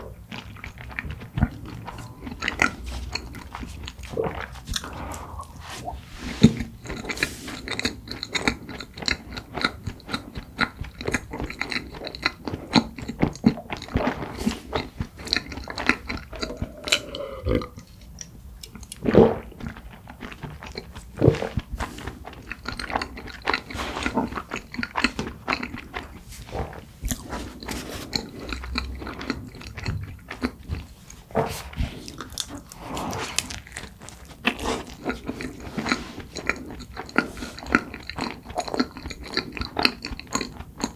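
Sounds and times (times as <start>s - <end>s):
chewing mouth clicks and smacks: 0.0s - 5.6s, 6.4s - 26.2s, 32.0s - 40.9s.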